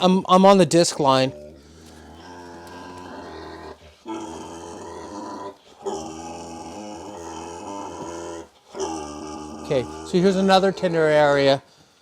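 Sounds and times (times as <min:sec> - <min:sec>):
pig grunting: 0:01.1 - 0:11.6.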